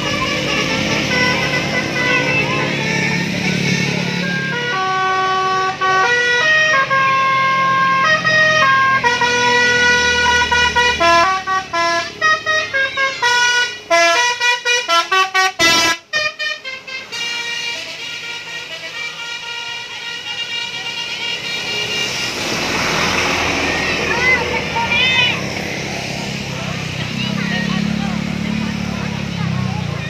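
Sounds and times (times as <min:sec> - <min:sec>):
multi-tone bus horn melody: 0:00.0 - 0:25.6.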